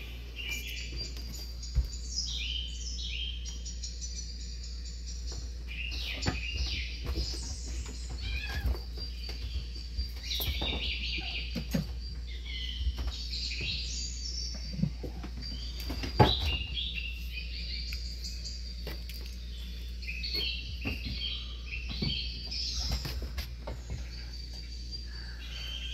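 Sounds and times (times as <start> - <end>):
small birds chirping: 0.0 - 25.9
steady low hum: 0.0 - 25.9.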